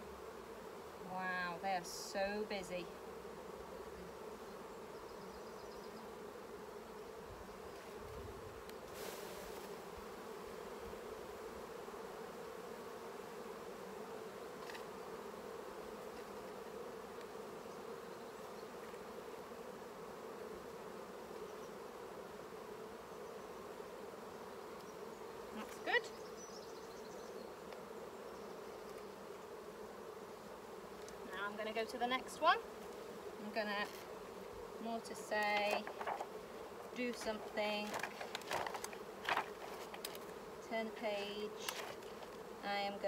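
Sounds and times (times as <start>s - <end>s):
honeybees buzzing: 0.0s - 43.0s.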